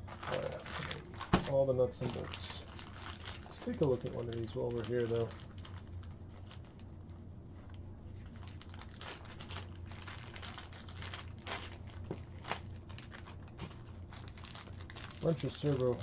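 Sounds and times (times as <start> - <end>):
plastic bag crinkling: 0.0 - 6.9, 8.2 - 16.0
steady low hum: 0.0 - 16.0.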